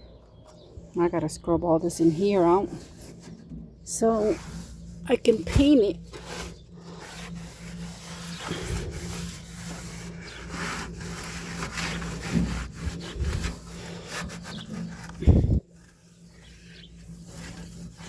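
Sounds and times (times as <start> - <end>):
hand scrubbing rubbing strokes: 1.5 - 18.0.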